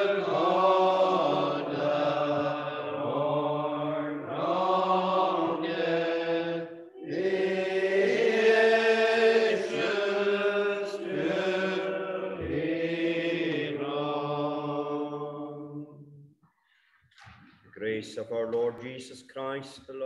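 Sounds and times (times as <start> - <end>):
unaccompanied psalm singing: 0.0 - 16.3.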